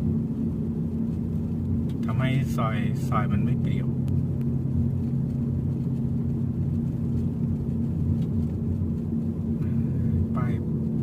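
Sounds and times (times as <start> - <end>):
car engine hum: 0.0 - 11.0
road rumble: 0.0 - 11.0.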